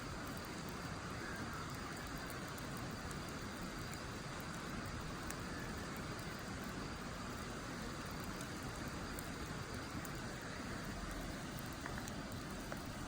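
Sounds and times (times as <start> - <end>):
campfire crackles and pops: 0.0 - 13.0
steady rushing hiss: 0.0 - 13.0.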